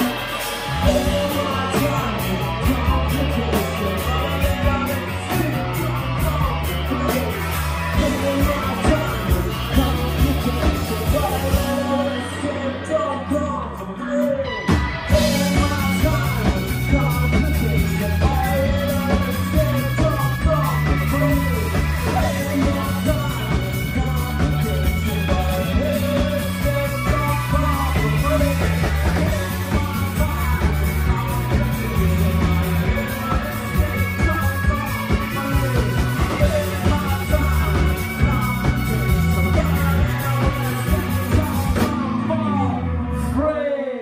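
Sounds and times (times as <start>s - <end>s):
rock band playing live: 0.0s - 44.0s.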